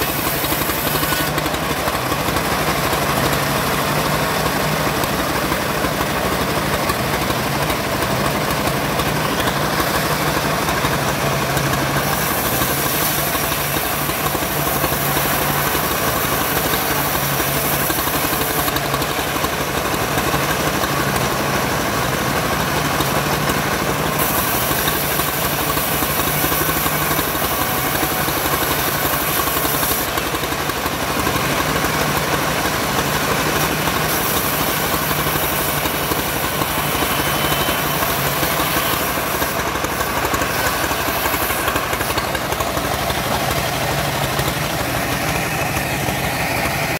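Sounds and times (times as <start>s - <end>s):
saw blade hissing through timber: 0.0s - 4.7s, 8.3s - 19.6s, 22.5s - 46.9s
bandsaw mill engine running: 0.0s - 46.9s.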